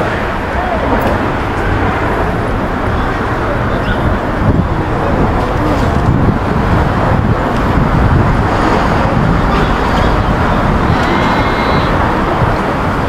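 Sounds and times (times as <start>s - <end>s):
rumble of car traffic: 0.0s - 13.0s.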